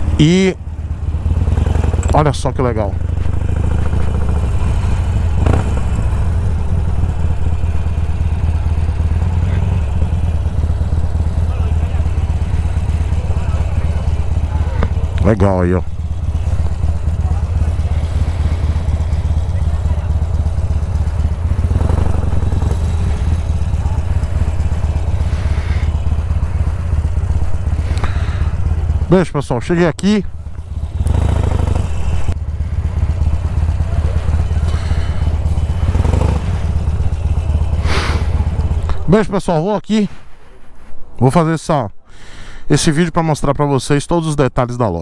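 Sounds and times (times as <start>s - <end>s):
motorcycle engine rumbling: 0.0s - 41.2s.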